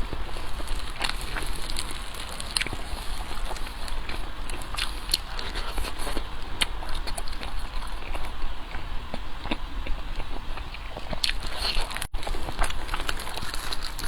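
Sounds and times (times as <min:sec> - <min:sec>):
chewing and crunching: 0:00.0 - 0:14.0
steady low hum: 0:00.0 - 0:14.0.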